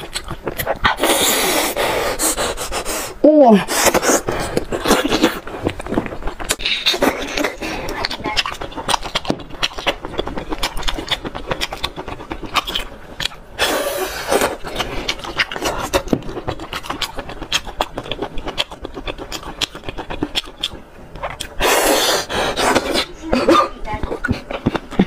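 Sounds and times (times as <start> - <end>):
wet slurping of snails: 0.0 - 23.2.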